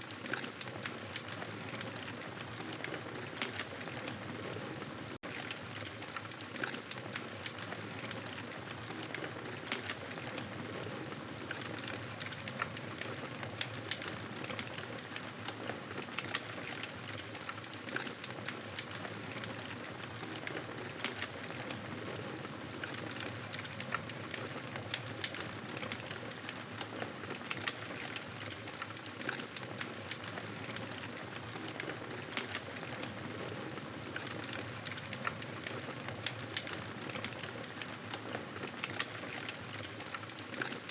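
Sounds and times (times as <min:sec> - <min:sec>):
campfire crackling: 0:05.4 - 0:40.9.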